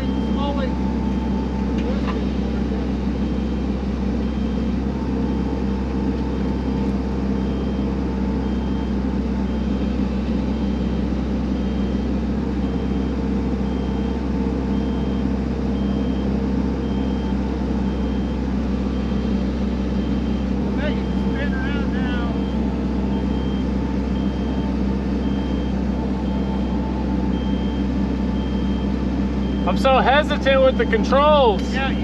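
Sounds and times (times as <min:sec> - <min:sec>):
excavator diesel engine running: 0:00.0 - 0:32.0
travel alarm beeping: 0:00.0 - 0:32.0.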